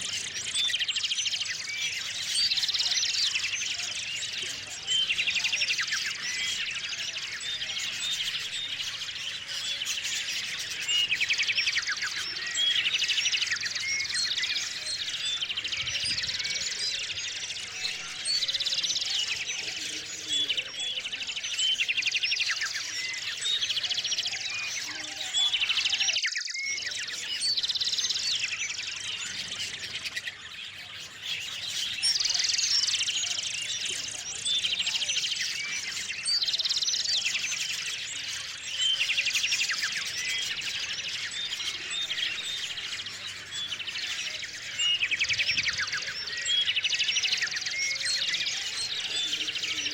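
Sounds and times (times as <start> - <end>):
small songbirds chirping and trilling: 0.0 - 49.9.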